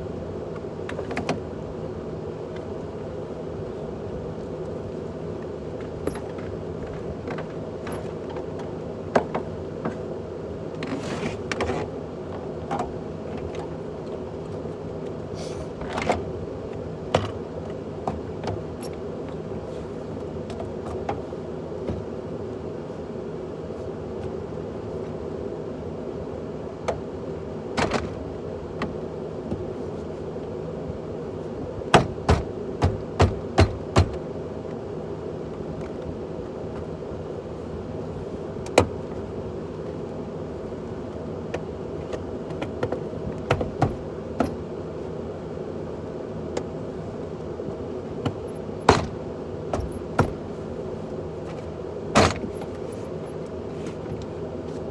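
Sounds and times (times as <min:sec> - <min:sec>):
steady hum: 0:00.0 - 0:54.9.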